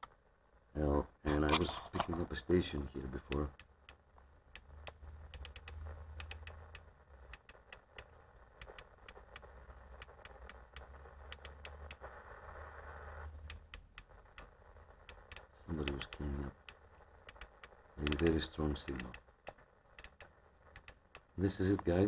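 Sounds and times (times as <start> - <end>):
radio receiver hiss: 0.0 - 22.0
steady low hum: 0.0 - 22.0.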